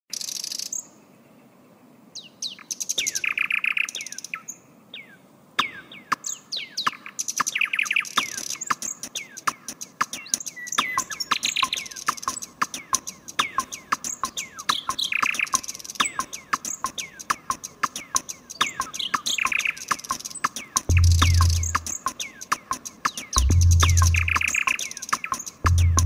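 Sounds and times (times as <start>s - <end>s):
birds chirping: 0.1s - 26.0s.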